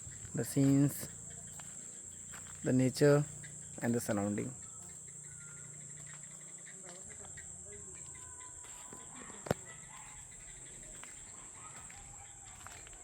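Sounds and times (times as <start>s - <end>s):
crickets chirping: 0.0s - 13.0s
faint bird calls: 0.0s - 13.0s.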